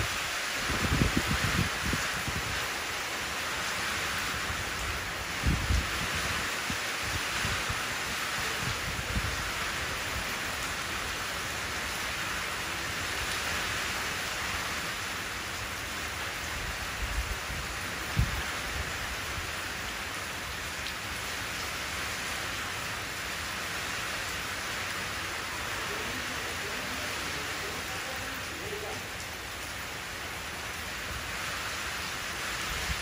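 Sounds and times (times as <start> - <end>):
rain falling into puddle: 0.0 - 16.5, 17.7 - 31.4.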